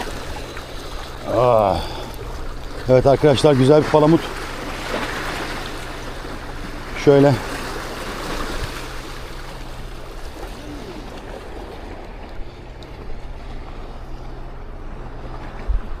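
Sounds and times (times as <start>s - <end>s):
boat engine humming: 0.0s - 16.0s
water washing past hull: 0.0s - 16.0s.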